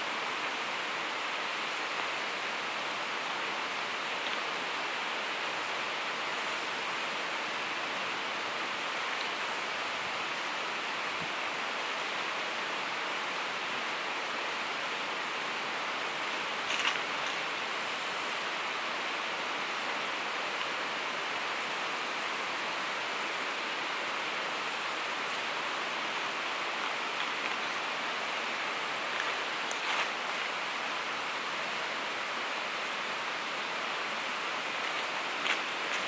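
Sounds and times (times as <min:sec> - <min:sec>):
river water rushing over rocks: 0:00.0 - 0:36.0.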